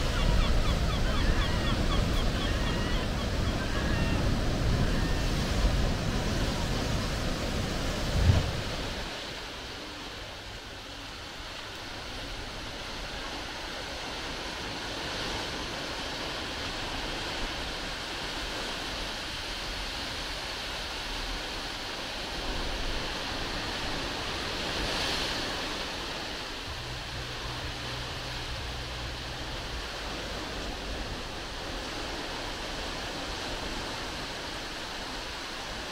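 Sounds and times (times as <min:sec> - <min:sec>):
surf washing against rocks: 0:03.0 - 0:35.9.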